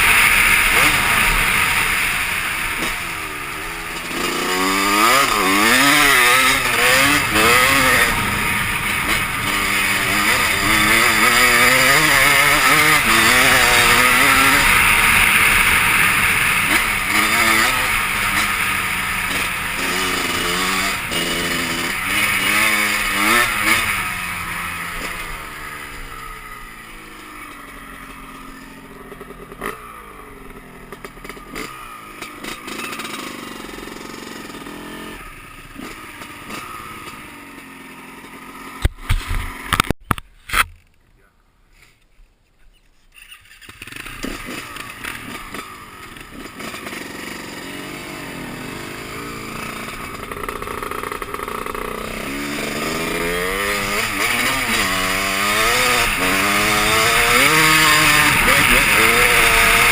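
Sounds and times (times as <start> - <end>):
dirt bike engine revving: 0.0 - 40.0, 43.3 - 59.9.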